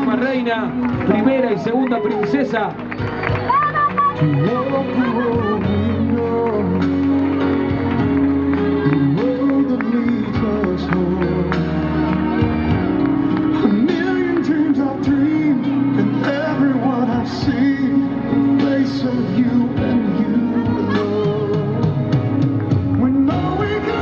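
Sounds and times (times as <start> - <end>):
pop song over sound system: 0.0 - 24.0.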